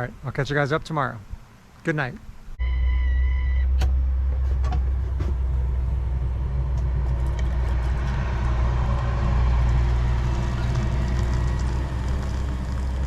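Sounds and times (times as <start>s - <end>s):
traffic noise: 0.0s - 13.0s
vehicle engine rumbling: 2.5s - 13.0s.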